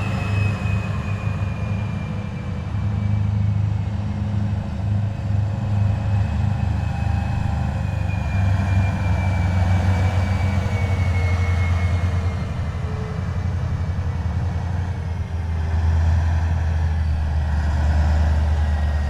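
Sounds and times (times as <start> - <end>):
heavy vehicles diesel rumble: 0.0 - 19.0.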